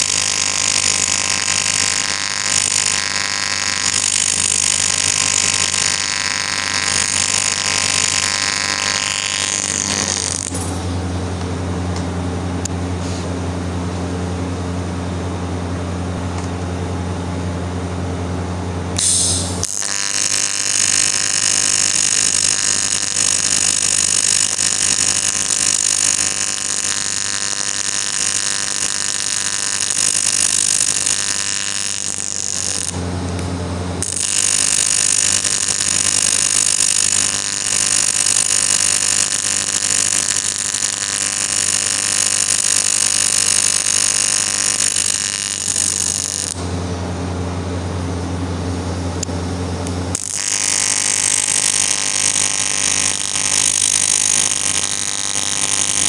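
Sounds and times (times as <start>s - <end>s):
welding arc buzzing: 0.0s - 11.2s, 19.0s - 47.0s, 48.6s - 56.0s
welder mains hum: 0.0s - 56.0s.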